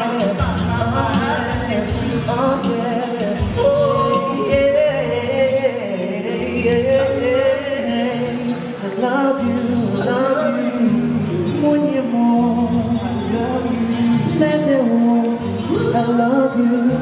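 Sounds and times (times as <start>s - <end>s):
instrumental backing with bass line: 0.0s - 17.0s
men singing into microphones: 0.0s - 17.0s.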